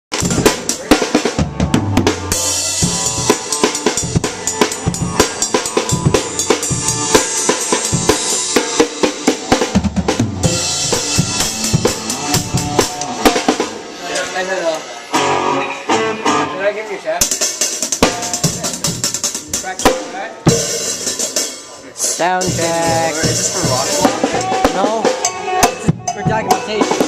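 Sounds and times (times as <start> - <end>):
rock drum kit: 0.1 - 16.6, 17.2 - 27.0.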